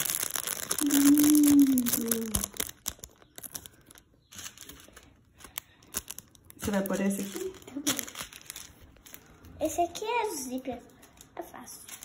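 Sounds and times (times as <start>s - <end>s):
plastic packet crinkling: 0.0s - 9.4s, 11.1s - 12.0s
faint clicks and rustles: 0.0s - 12.0s.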